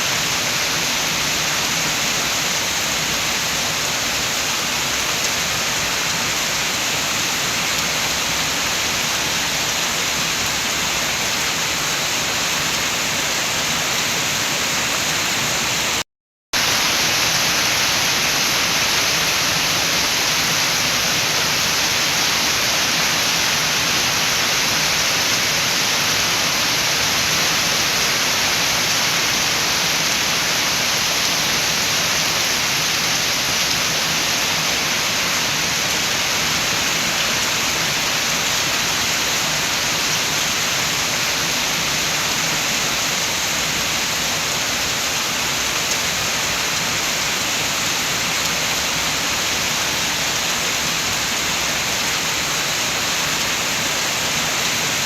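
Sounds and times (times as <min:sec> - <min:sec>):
steady rain with wind: 0:00.0 - 0:16.0, 0:16.6 - 0:55.0.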